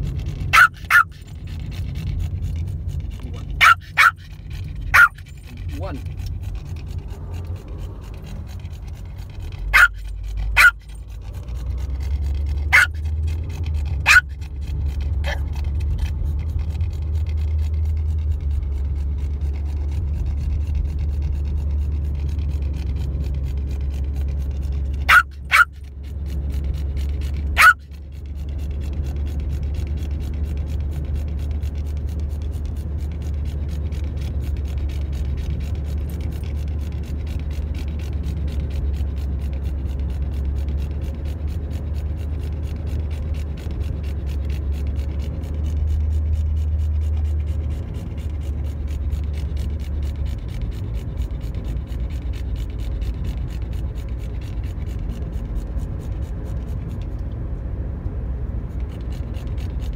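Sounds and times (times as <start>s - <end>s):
car cabin drone: 0.0s - 59.9s.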